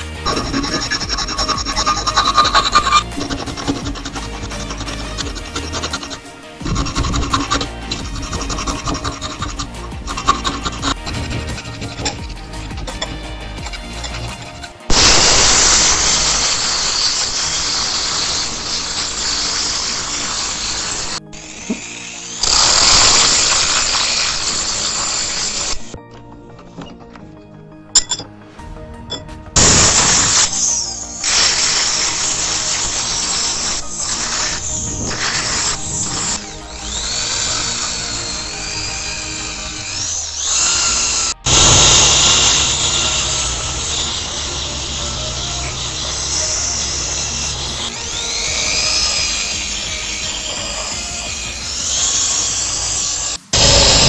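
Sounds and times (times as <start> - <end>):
abrasive rasping on metal: 0.0 - 26.0, 29.6 - 54.0
power drill motor whine: 0.0 - 26.0, 29.6 - 54.0
angle grinder grinding steel: 0.0 - 27.4, 29.1 - 54.0.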